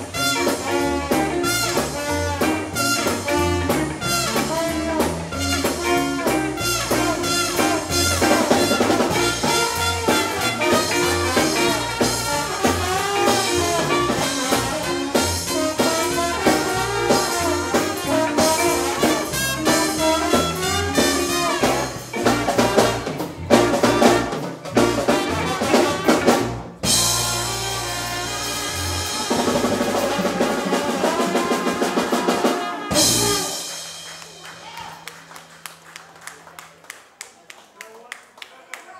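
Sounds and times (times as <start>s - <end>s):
drum fills: 0.0s - 35.8s
horn-led band playing: 0.0s - 35.8s.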